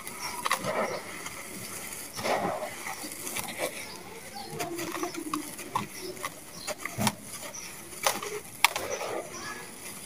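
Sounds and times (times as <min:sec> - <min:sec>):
gritty crunching of cement mix: 0:00.0 - 0:10.0.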